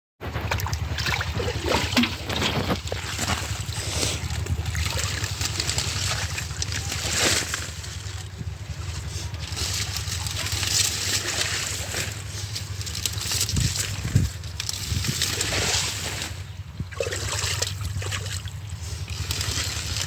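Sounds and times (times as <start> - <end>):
steady low rumble: 0.2 - 20.0
water splashing and sloshing: 0.2 - 20.0.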